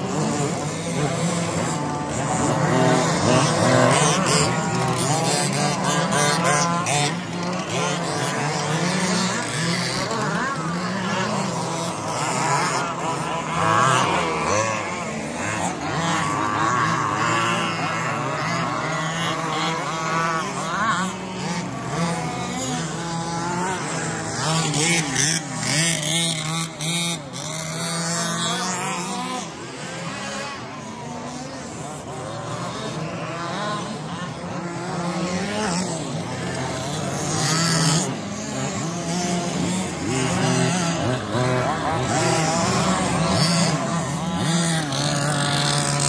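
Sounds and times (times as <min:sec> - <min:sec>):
small petrol engines revving: 0:00.0 - 0:46.0.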